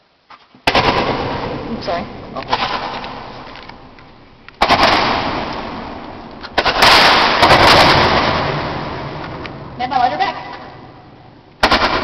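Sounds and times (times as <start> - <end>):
firework bangs: 0.6 - 11.0, 11.6 - 12.0
hissing echo: 0.7 - 12.0.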